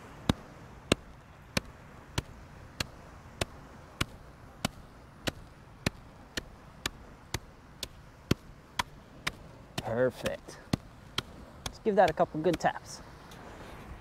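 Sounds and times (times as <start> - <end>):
shovel slapping sand: 0.2 - 13.9.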